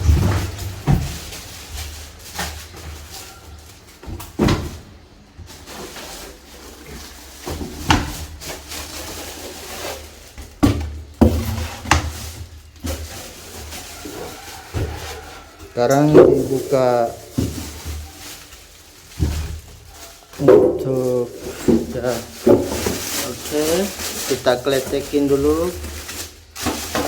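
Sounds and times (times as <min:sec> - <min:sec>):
packaging rustling and scraping: 0:00.0 - 0:27.0.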